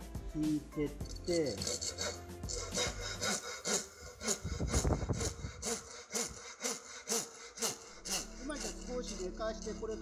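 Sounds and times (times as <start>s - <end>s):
hand saw cutting wood: 1.5s - 10.0s.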